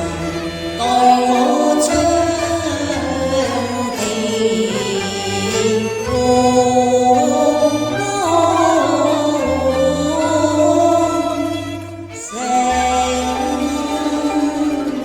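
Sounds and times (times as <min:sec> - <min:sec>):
opera melody with sliding notes: 0:00.0 - 0:15.0.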